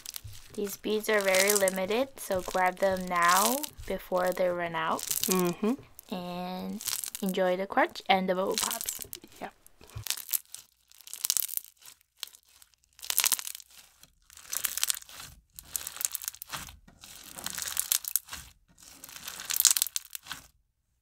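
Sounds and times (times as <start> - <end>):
slime crunching and popping: 0.0 - 20.5.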